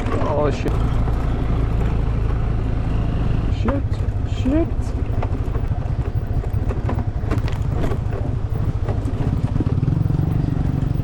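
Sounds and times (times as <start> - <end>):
clicks and knocks from riding: 0.0 - 2.5, 3.6 - 10.0
motorbike engine rumbling: 0.0 - 11.0.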